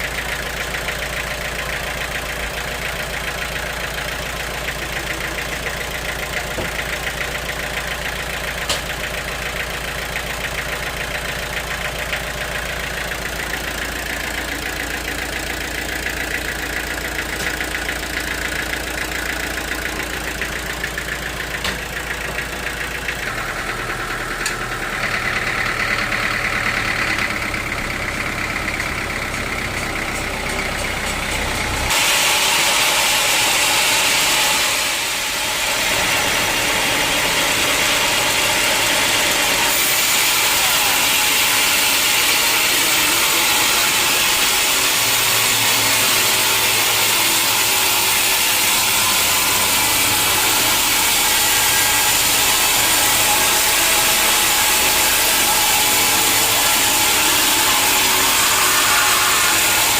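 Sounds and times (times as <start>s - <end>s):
saw blade cutting log: 0.0s - 27.8s, 28.5s - 59.9s
sawmill machinery droning: 0.0s - 59.9s.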